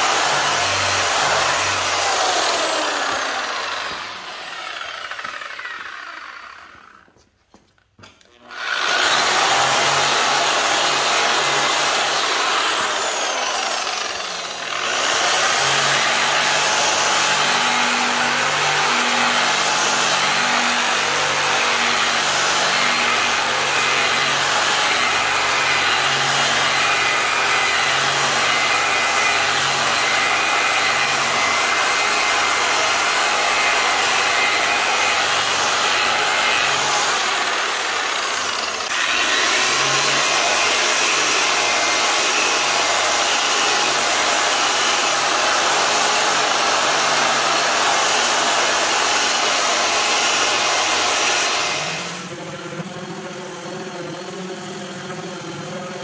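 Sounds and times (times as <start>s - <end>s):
sander grinding sheet metal: 0.0s - 7.2s, 8.3s - 56.0s.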